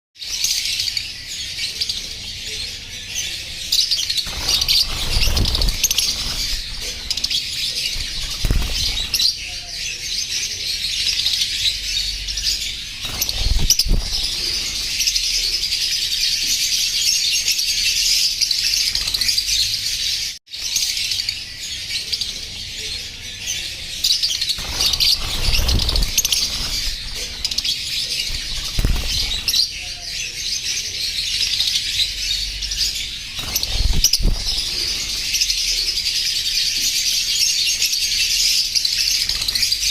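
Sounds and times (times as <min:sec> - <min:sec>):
lovebirds chirping: 0:00.2 - 0:39.9.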